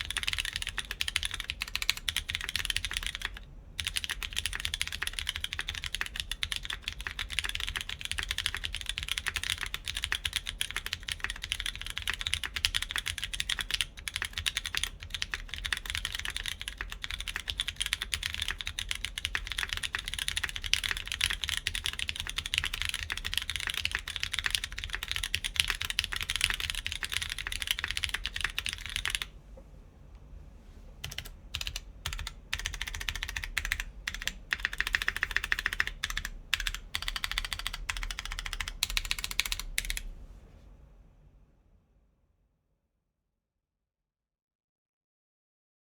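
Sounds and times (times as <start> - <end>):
mechanical keyboard typing: 0.0 - 29.3, 31.0 - 40.1.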